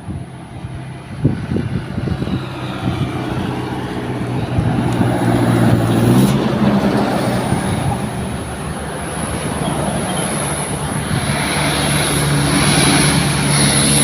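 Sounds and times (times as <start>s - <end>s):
diesel truck engine labouring: 0.0s - 14.0s.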